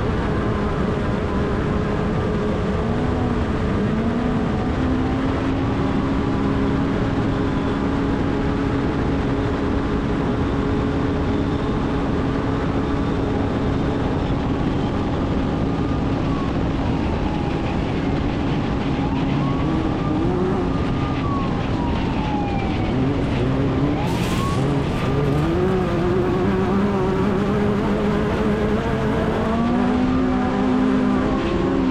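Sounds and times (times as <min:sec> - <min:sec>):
heavy course rumble: 0:00.0 - 0:31.9
race vehicle engine running hard: 0:00.0 - 0:31.9.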